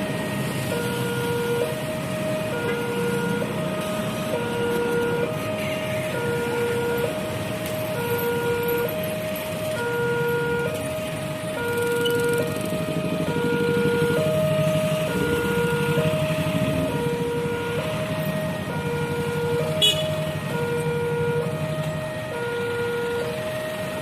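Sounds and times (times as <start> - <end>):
two-tone level crossing alarm: 0.0 - 24.0.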